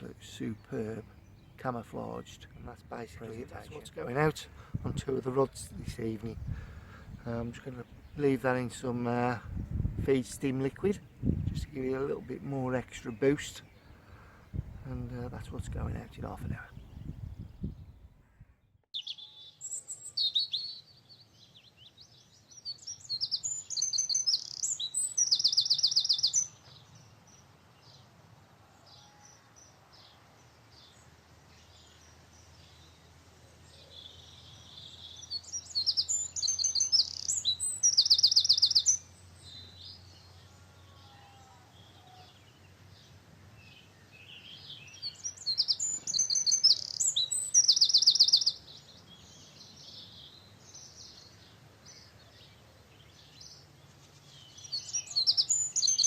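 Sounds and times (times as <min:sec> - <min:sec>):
songbird singing chirps and trills: 0:00.0 - 0:56.0.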